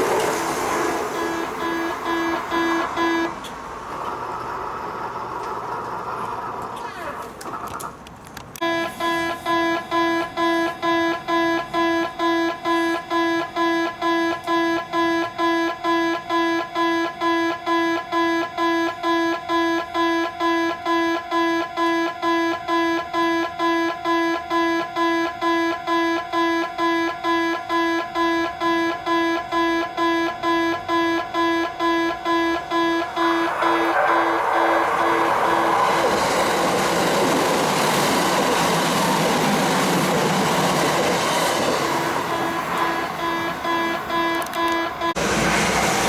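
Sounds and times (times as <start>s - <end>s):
level crossing alarm bell: 0.0s - 3.4s, 8.6s - 45.3s.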